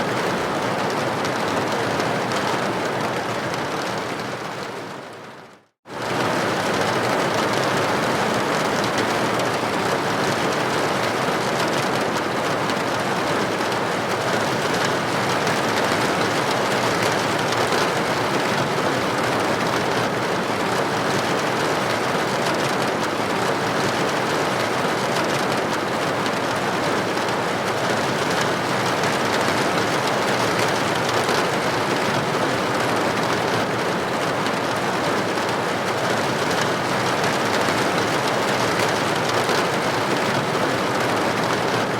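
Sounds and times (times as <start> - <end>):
rain against a window: 0.0 - 41.9.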